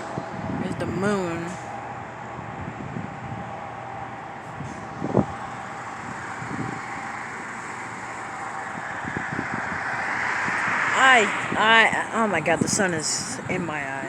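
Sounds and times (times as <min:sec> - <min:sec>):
distant engine noise: 0:00.0 - 0:14.0
faint steady whine: 0:00.0 - 0:14.0.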